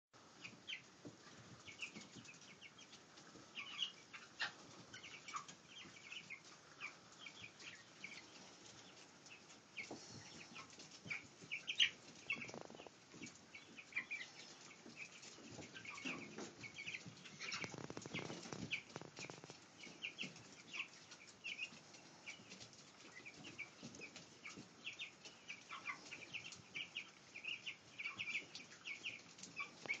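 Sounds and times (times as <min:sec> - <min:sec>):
chicks peeping: 0:00.2 - 0:30.0.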